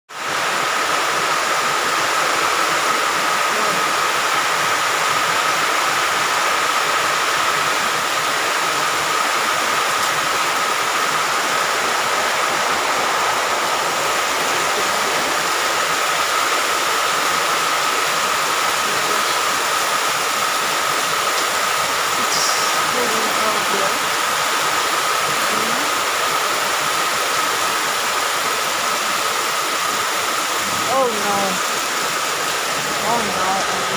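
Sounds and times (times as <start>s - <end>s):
heavy rain on roof: 0.1s - 33.9s.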